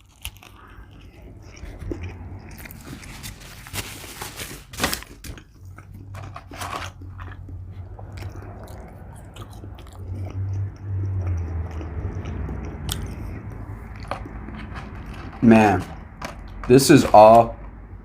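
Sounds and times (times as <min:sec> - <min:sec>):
person biting and chewing food: 0:00.0 - 0:16.6.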